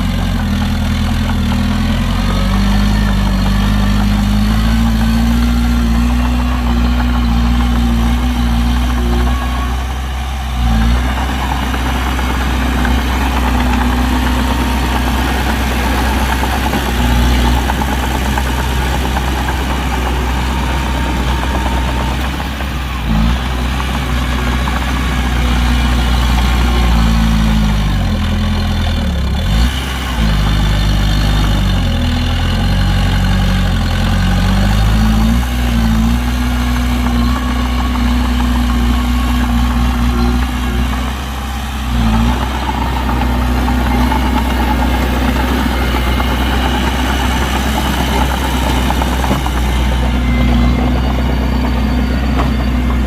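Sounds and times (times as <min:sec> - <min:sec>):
heavy diesel engine revving: 0:00.0 - 0:53.0.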